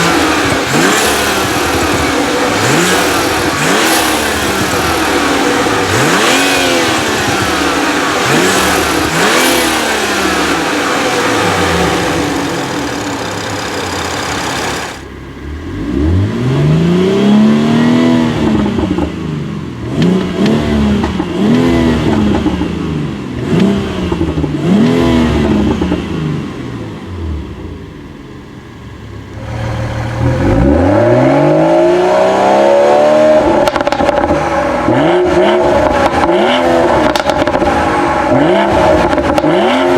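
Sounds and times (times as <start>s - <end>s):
car engine revving: 0.0s - 28.0s, 29.2s - 39.9s.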